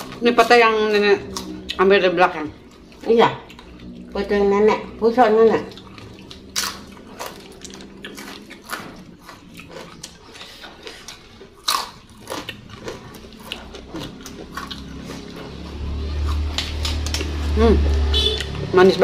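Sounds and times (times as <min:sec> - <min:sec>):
crunchy chewing: 0:00.0 - 0:18.7.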